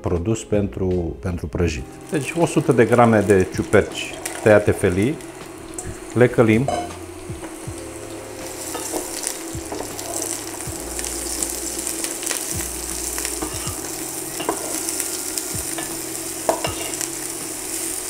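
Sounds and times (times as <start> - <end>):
mushrooms sizzling in oil: 1.7 - 18.0.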